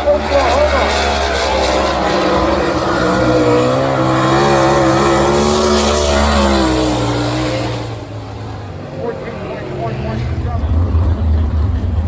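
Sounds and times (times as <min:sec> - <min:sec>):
racing car engines running hard: 0:00.0 - 0:12.0.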